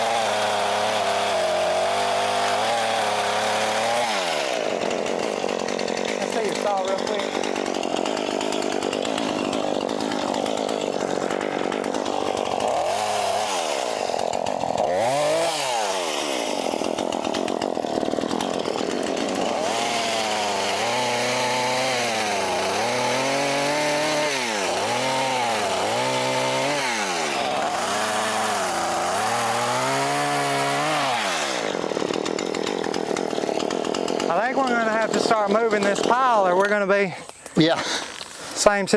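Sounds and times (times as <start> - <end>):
chainsaw revving and cutting brush: 0.0 - 38.9.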